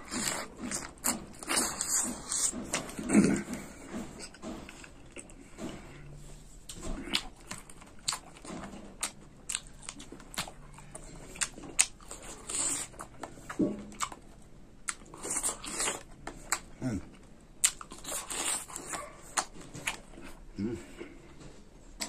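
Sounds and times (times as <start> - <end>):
wet chewing: 0.0 - 20.5.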